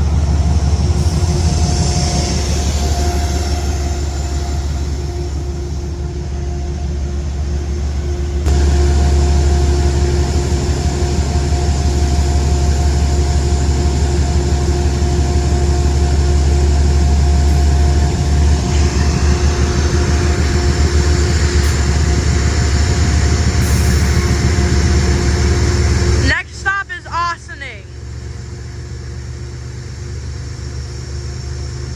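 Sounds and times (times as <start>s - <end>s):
diesel locomotive drone: 0.0s - 31.9s
locomotive whine: 0.0s - 31.9s.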